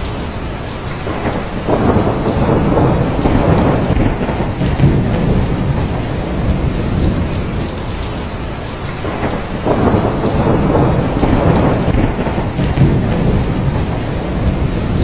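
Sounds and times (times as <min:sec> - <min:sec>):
rolling thunder rumble: 0:00.0 - 0:15.0
steady rain: 0:00.0 - 0:15.0.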